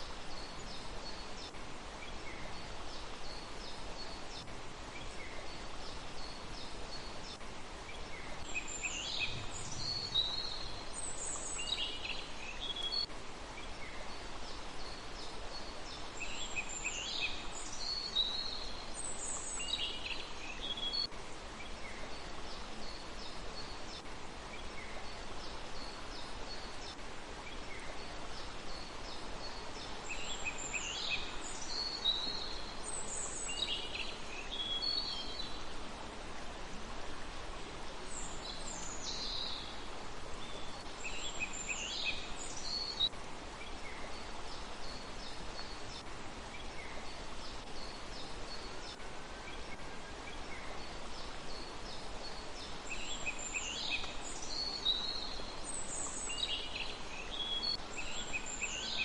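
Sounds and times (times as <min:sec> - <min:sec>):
background hiss: 0:00.0 - 0:59.0
songbirds calling: 0:00.0 - 0:59.0.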